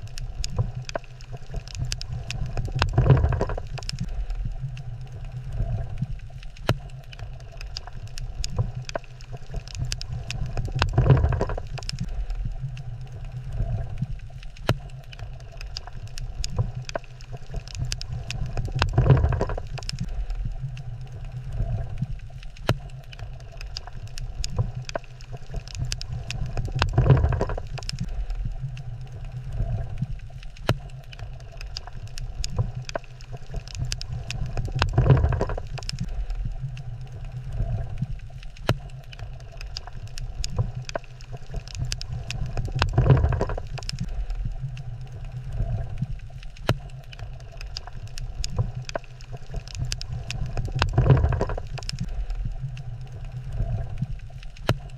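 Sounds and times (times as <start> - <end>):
sharp underwater clicks: 0.0 - 54.9.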